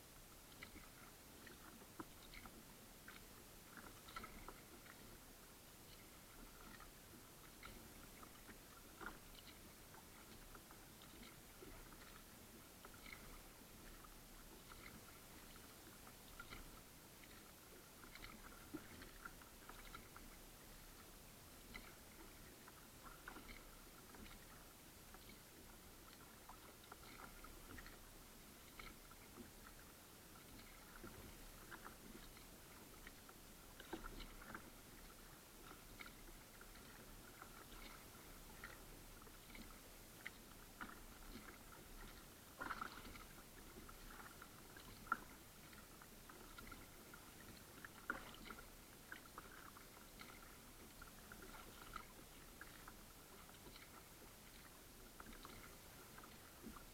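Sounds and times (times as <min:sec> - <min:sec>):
paddle splashing water: 0:00.0 - 0:56.9.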